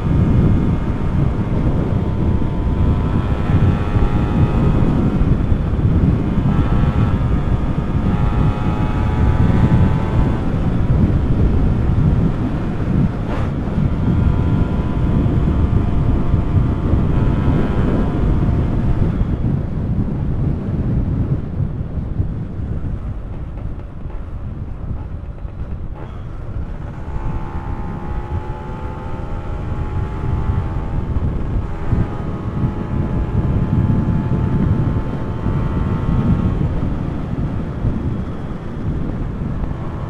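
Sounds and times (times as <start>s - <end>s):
motorcycle engine accelerating: 0.0s - 40.0s
wind rumble on microphone: 0.0s - 40.0s.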